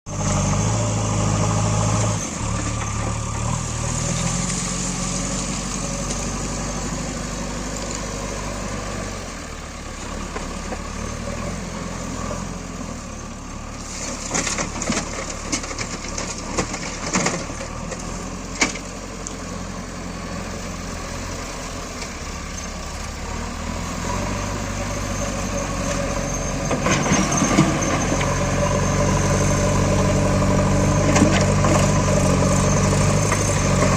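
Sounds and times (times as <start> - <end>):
backhoe diesel engine running: 0.1 - 33.9.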